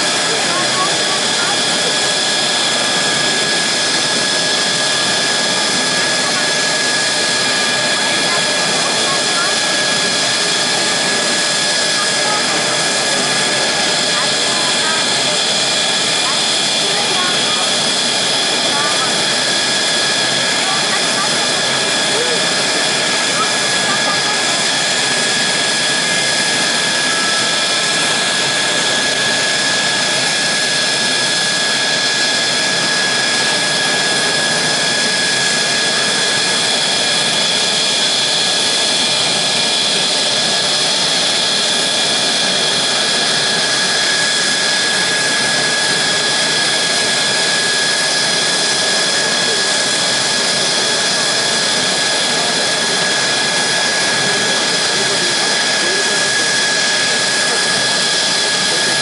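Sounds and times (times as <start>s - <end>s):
jet engine running with whine: 0.0s - 59.0s.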